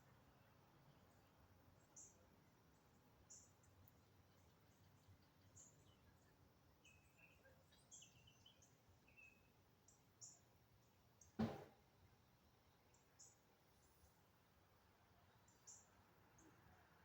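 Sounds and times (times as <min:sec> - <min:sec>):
small birds chirping: 0:00.0 - 0:16.9
low background hiss: 0:00.0 - 0:17.0.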